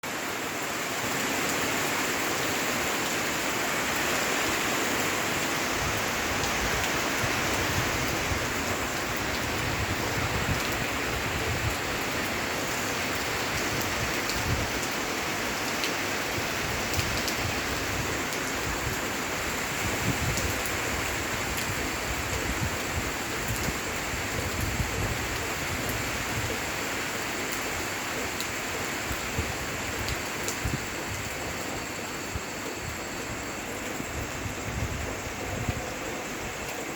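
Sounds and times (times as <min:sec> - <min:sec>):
rain falling steadily: 0:00.0 - 0:36.9.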